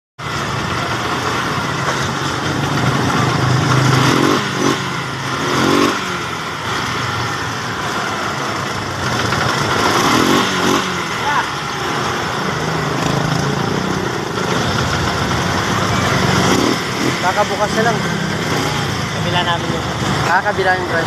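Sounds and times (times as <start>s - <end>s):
motorcycle engine running: 0.2s - 21.0s.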